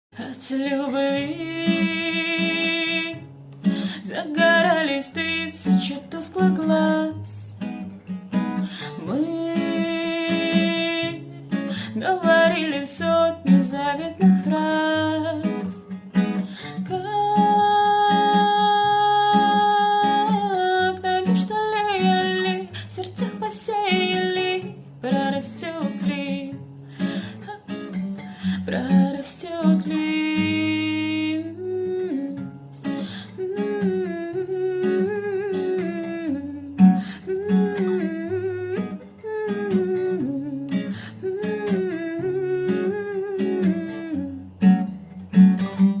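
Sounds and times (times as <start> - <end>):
acoustic guitar: 0.1 - 46.0.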